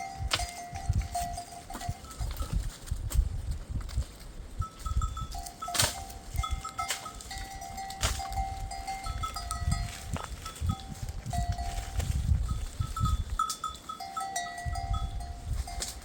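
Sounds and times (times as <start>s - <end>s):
animal bells clinking: 0.0s - 16.0s.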